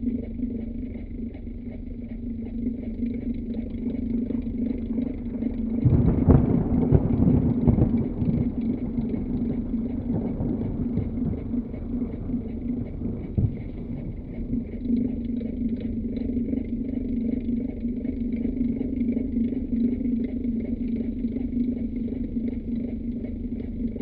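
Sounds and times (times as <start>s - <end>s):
electric fan motor hum: 0.0s - 24.0s
low rumble with thumps: 0.0s - 24.0s.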